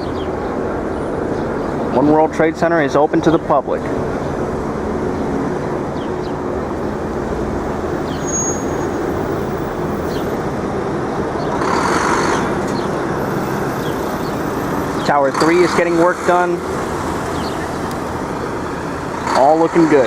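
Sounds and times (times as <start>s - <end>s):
street traffic hum: 0.0s - 20.0s.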